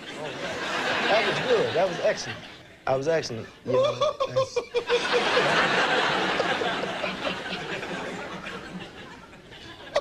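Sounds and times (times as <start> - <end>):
studio audience laughing: 0.0 - 3.1, 3.7 - 10.0.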